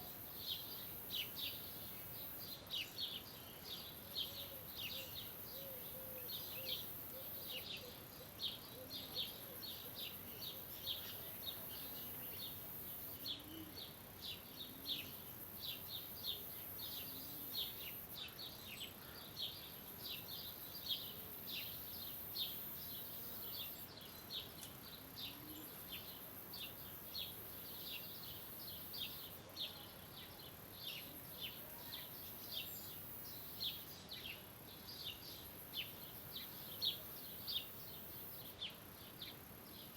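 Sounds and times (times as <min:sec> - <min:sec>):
faint outdoor hiss: 0:00.0 - 0:39.9.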